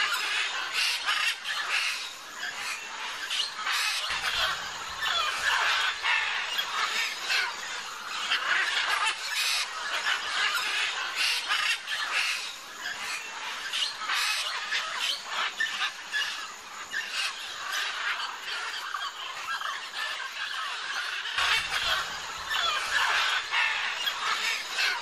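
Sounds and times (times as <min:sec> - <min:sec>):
macaws squawking and screeching: 0:00.0 - 0:25.0.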